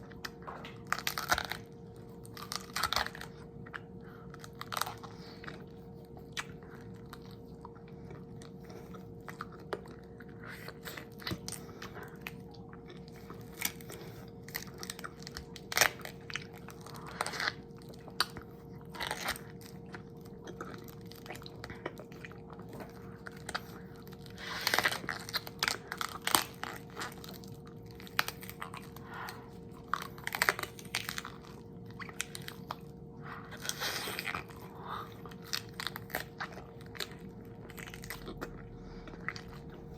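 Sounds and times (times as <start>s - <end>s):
crunchy chewing: 0.0s - 39.9s
faint steady hum: 0.0s - 39.9s.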